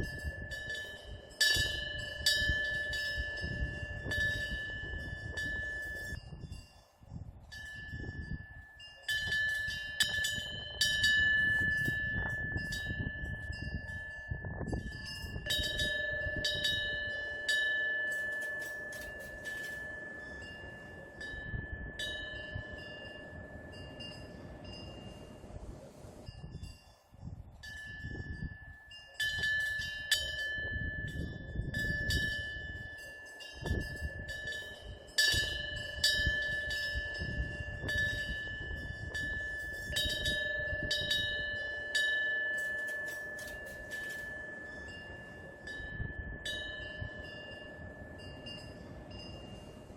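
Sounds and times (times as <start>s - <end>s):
wind bell ringing: 0.0s - 49.9s.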